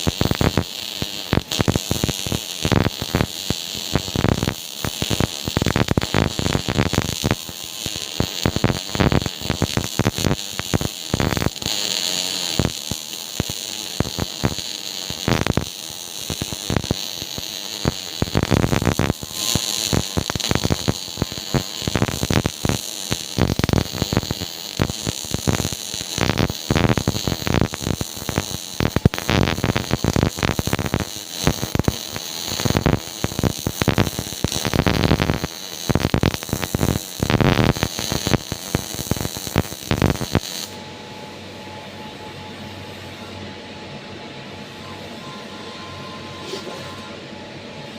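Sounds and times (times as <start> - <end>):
welding arc crackling: 0.0 - 40.8.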